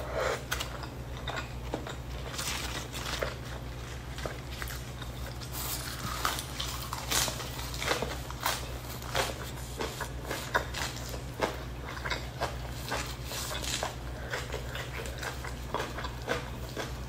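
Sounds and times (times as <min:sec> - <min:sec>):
steady low hum: 0:00.0 - 0:17.0
close chewing with crunches: 0:00.3 - 0:17.0.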